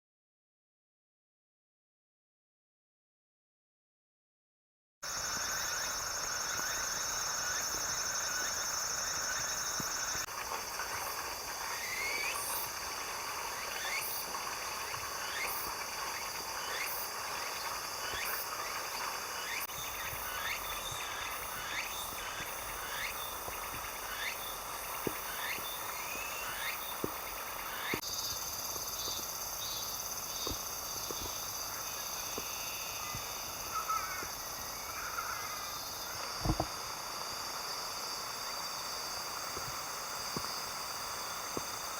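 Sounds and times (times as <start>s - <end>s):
high-pitched insect trill: 5.0s - 41.9s
hum of insects: 5.0s - 41.9s.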